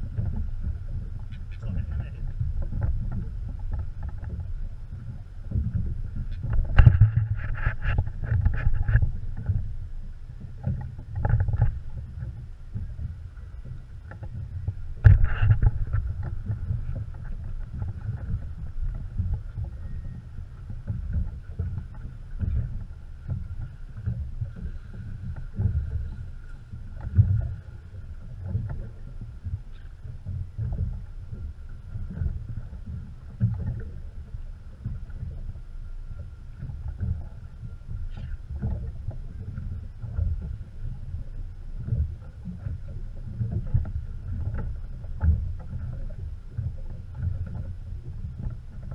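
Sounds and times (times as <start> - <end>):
water slapping boat hull: 0.0 - 48.9.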